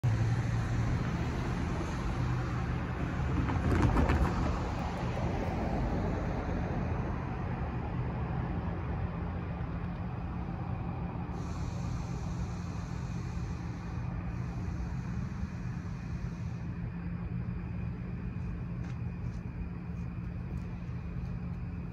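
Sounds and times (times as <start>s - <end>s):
low traffic hum: 0.0s - 21.9s.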